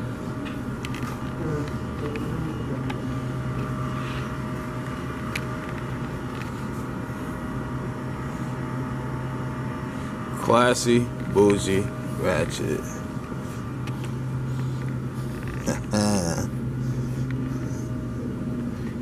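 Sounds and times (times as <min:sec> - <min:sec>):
cooling equipment hum: 0:00.0 - 0:19.0.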